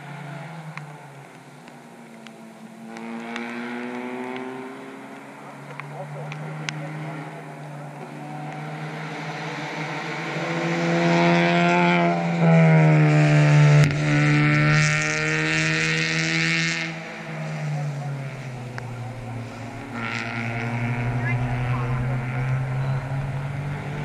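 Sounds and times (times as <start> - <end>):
race car engine passing: 2.0 - 24.0.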